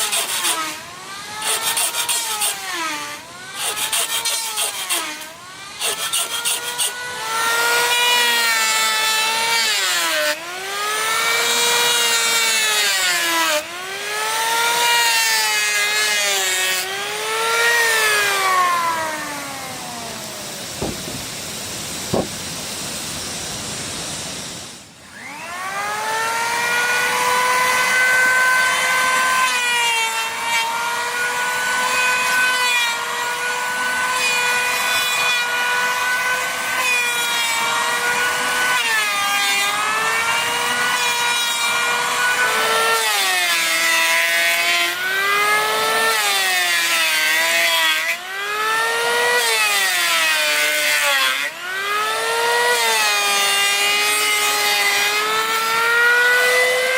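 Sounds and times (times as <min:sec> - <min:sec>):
power tool cutting wood: 0:00.0 - 0:56.9.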